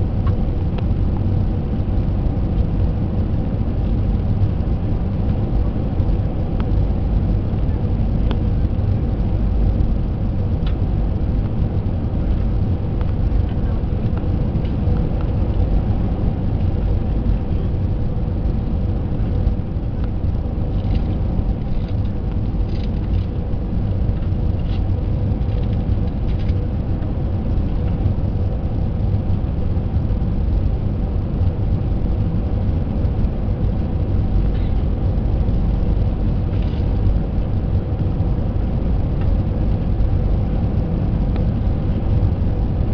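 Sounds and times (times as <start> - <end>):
airliner cabin engine rumble: 0.0 - 42.9
steady hum tone: 0.0 - 42.9.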